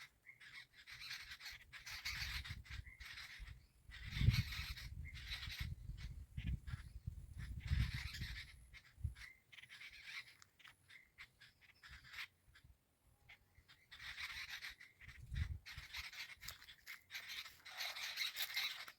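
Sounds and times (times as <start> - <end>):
parrots chattering: 0.2 - 12.6, 13.3 - 18.9.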